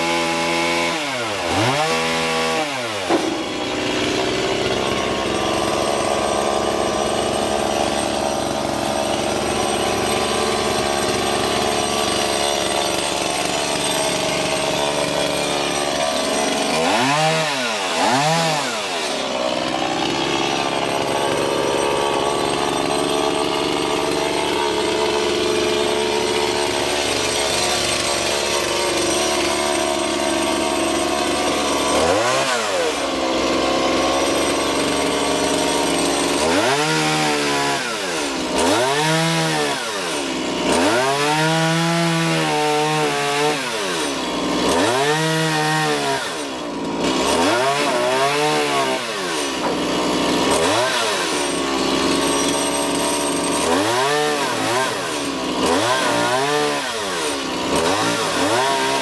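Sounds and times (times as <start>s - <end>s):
chainsaw cutting and revving: 0.0s - 59.0s.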